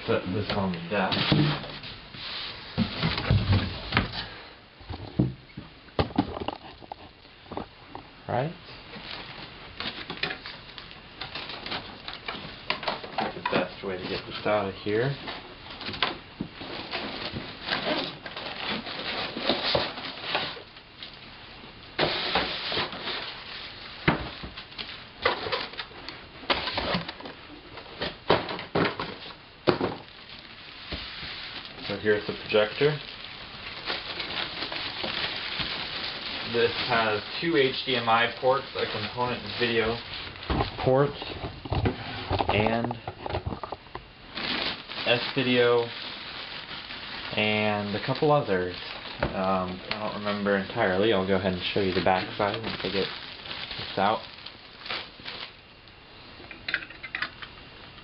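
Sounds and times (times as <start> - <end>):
cardboard and packing handled: 0.1 - 7.8, 8.9 - 21.2, 22.0 - 55.8.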